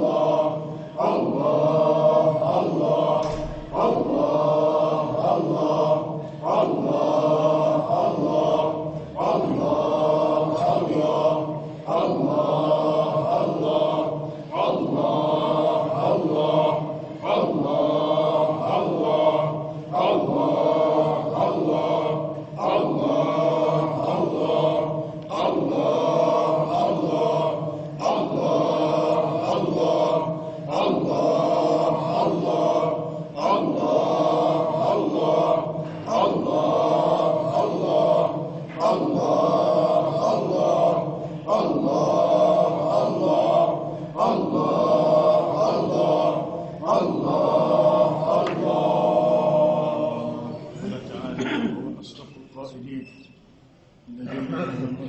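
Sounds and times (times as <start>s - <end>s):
men chanting together: 0.0s - 51.6s.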